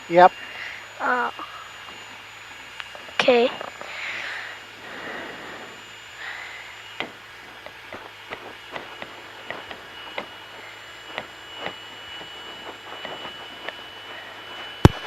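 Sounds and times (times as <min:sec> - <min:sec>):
faint steady hum: 0:00.0 - 0:15.0
thin high whine: 0:00.0 - 0:15.0.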